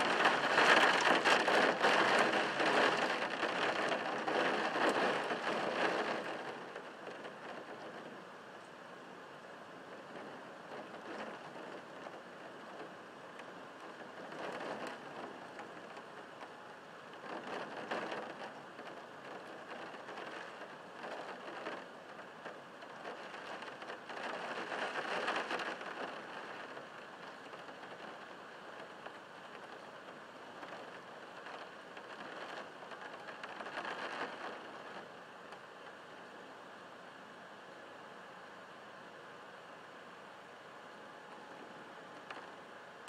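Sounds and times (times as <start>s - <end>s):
heavy rain on window: 0.0s - 43.0s.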